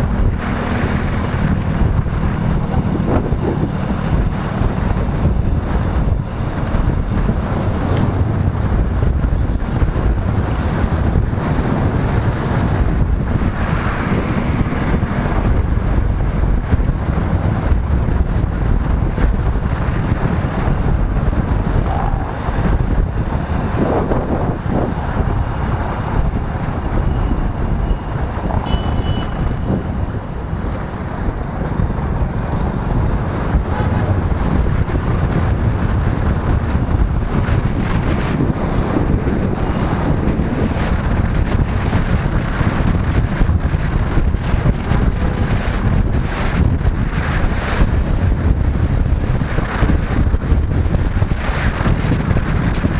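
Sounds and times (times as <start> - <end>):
motorcycle engine: 0.0 - 52.9
road noise: 0.0 - 52.9
wind buffeting microphone: 0.0 - 52.9.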